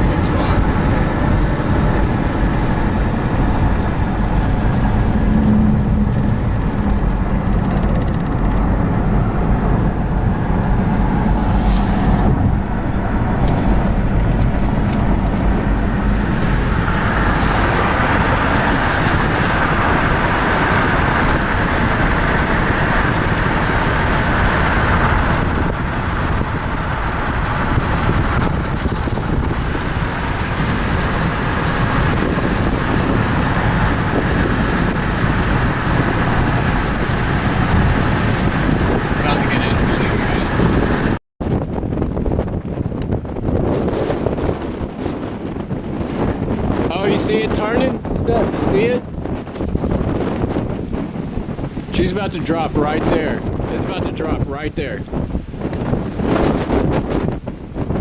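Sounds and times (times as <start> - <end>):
car engine rumble: 0.0 - 58.0
road noise: 0.0 - 58.0.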